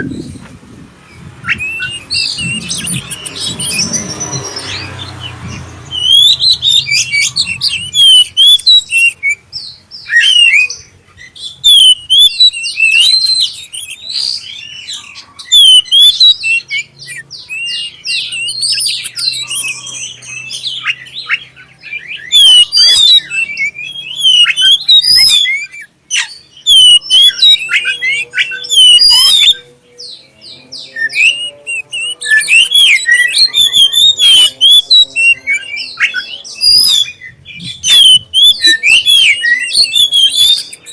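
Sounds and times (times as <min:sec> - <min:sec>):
bird singing whistles and chatter: 0:01.1 - 0:40.9.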